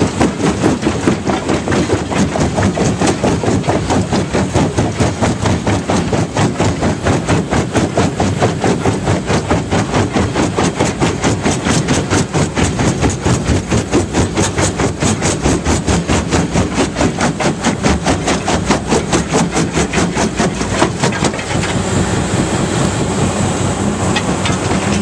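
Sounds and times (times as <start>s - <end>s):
jaw crusher knocking rock: 0.0s - 22.0s, 24.1s - 25.0s
machine engine running: 0.0s - 25.0s.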